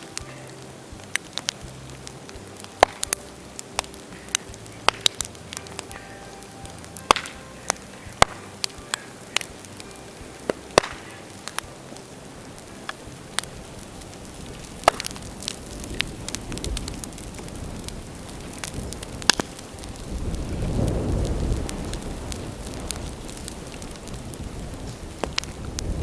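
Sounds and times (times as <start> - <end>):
bamboo bonfire crackling: 0.0 - 26.0
low rumble: 0.0 - 26.0
sharp popping: 0.0 - 26.0.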